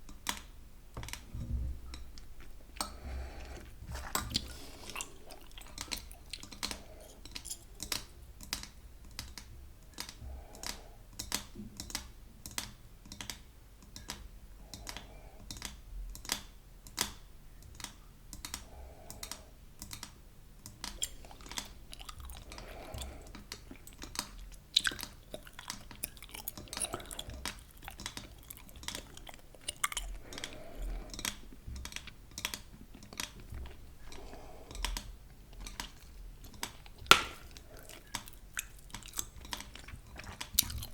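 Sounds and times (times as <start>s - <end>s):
chewing gum clicks and snaps: 1.9s - 40.9s.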